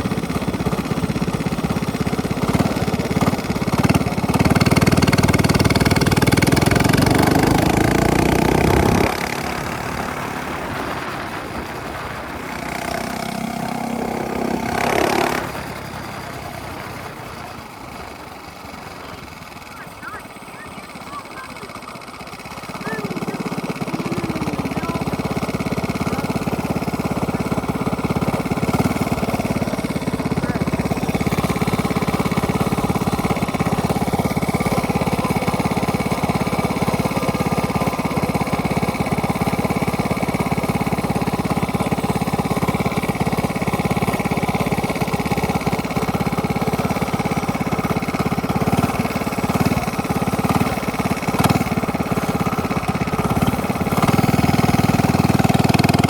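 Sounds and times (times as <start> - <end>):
minibike engine running: 0.0 - 56.0.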